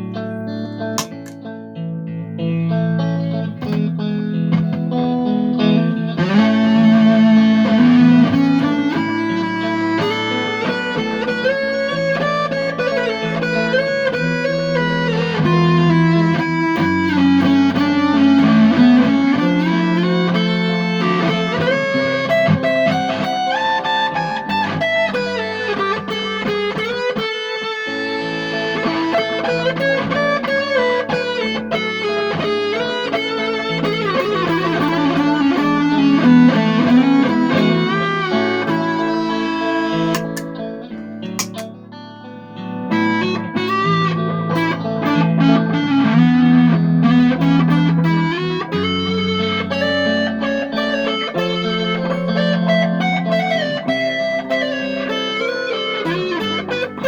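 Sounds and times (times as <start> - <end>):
fuzz electric guitar melody: 0.0 - 57.0.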